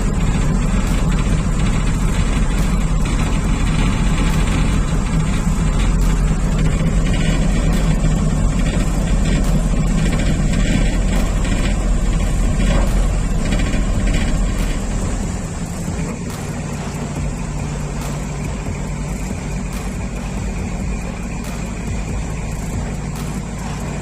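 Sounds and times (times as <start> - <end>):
boat engines humming: 0.0 - 24.0.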